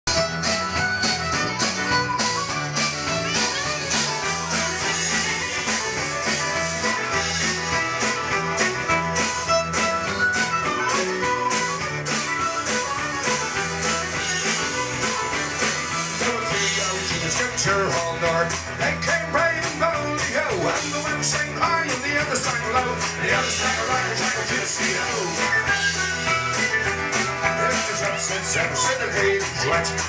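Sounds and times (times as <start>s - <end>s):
live folk band playing: 0.1s - 30.0s.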